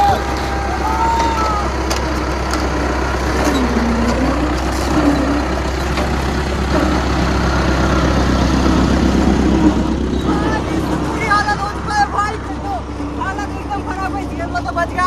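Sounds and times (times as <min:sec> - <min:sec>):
road roller engine running: 0:00.0 - 0:15.0.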